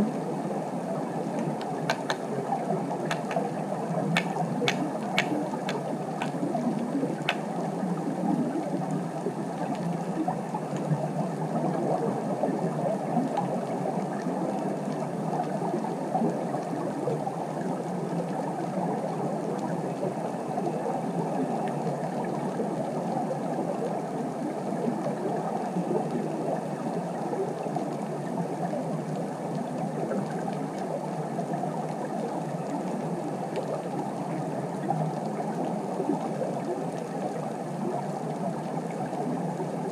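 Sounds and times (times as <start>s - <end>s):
underwater moving water: 0.0s - 39.9s.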